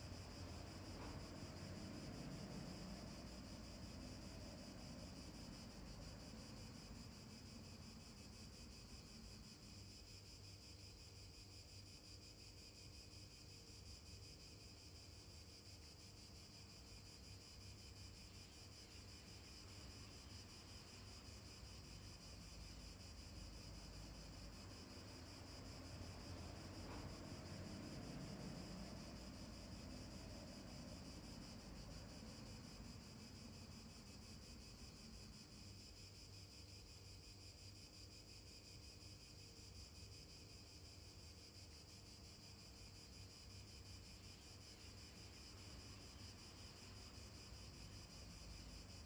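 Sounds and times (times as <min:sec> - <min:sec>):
faint high-pitched hiss: 0:00.0 - 0:49.0.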